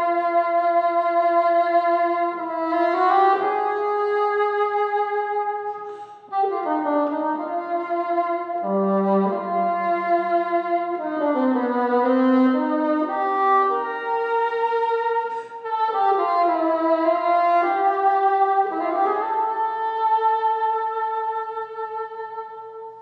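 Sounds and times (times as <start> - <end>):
solo bassoon melody: 0.0 - 23.0.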